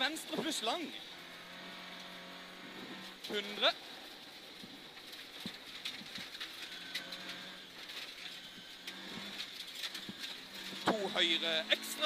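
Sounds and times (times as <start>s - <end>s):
faint car engine: 0.0s - 12.0s.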